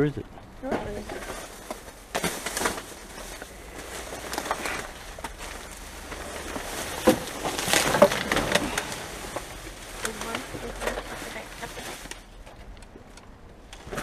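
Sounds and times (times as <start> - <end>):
plastic bags rustling: 0.7 - 12.7.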